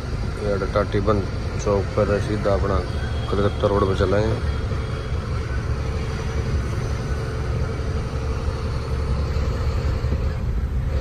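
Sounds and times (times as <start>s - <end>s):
road rumble: 0.0s - 11.0s
truck engine drone in cab: 0.0s - 11.0s.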